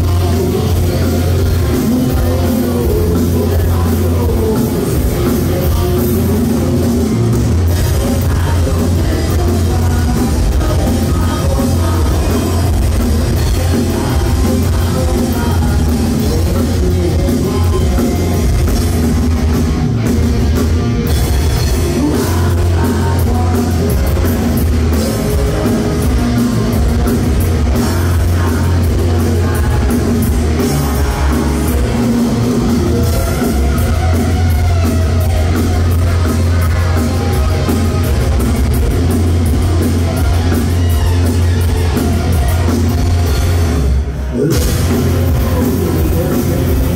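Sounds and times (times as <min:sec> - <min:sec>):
singer's vocals: 0:00.0 - 0:19.3, 0:21.1 - 0:43.3, 0:43.9 - 0:46.9
distorted electric guitars: 0:00.0 - 0:46.9
pounding drum kit: 0:00.0 - 0:46.9.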